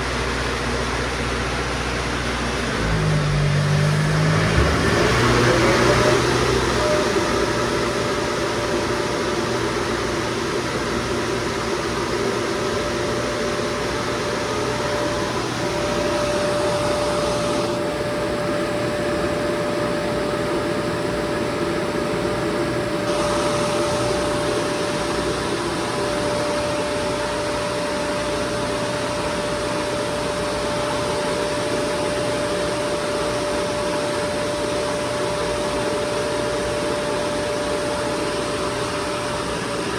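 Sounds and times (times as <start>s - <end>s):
air-conditioning unit running: 0.0s - 39.9s.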